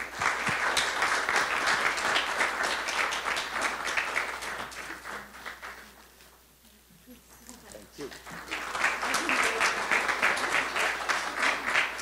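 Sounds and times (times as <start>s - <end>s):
audience applauding: 0.0s - 6.1s, 8.0s - 12.0s.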